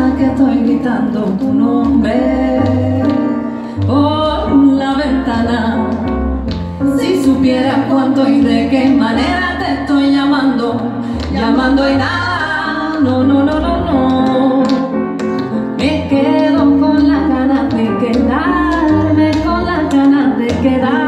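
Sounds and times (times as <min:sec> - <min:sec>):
women singing: 0:00.0 - 0:15.0, 0:15.8 - 0:21.0.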